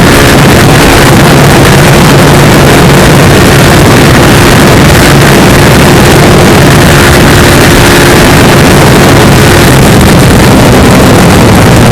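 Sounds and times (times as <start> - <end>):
motorcycle engine running hard: 0.0 - 11.9
wind buffeting microphone: 0.0 - 11.9.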